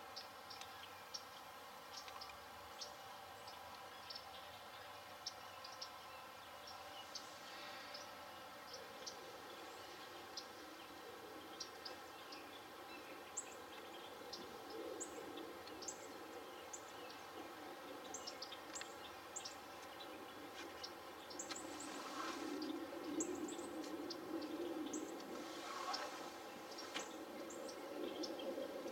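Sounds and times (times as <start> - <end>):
low background noise: 0.0 - 28.9
small birds chirping: 0.0 - 28.9.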